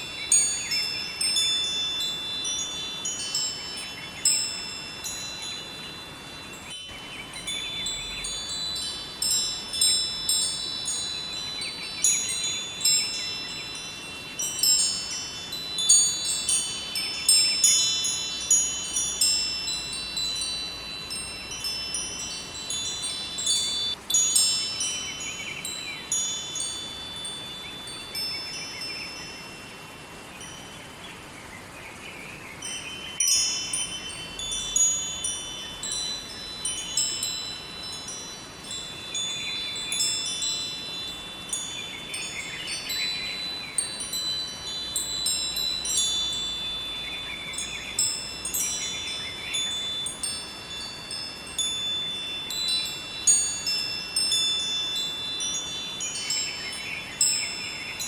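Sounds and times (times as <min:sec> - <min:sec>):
wind chimes tinkling: 0:00.0 - 0:31.8, 0:32.5 - 0:58.0.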